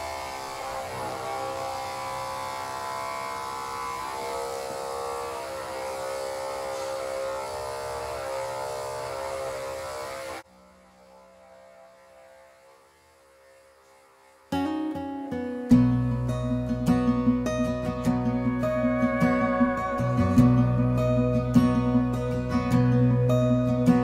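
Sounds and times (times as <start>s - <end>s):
electric clippers buzzing: 0.0s - 24.0s.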